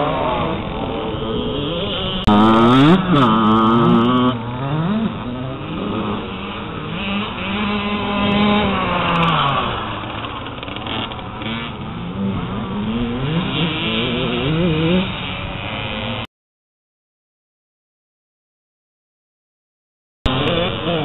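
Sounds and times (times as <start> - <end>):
motocross bike engines revving: 0.0 - 16.3, 20.3 - 21.0.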